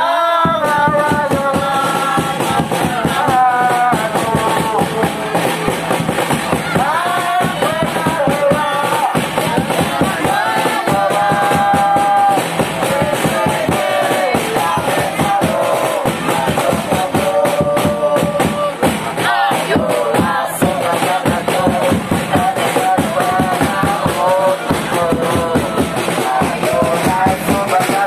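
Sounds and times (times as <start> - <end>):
crowd chanting in unison: 0.0 - 28.0
drum beaten with a mallet: 0.0 - 28.0.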